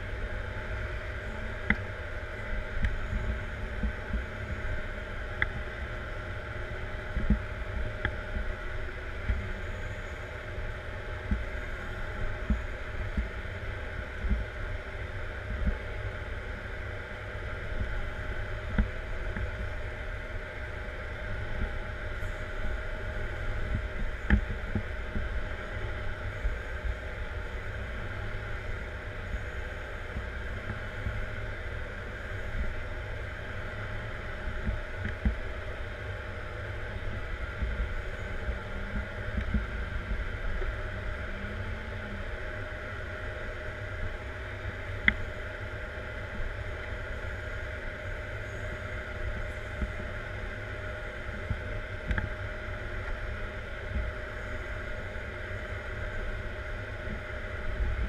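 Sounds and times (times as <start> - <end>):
grader engine drone: 0.0 - 58.0.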